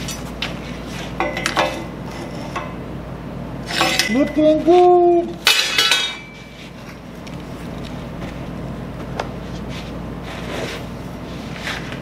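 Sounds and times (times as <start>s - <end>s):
electrical hum and fan noise: 0.0s - 12.0s.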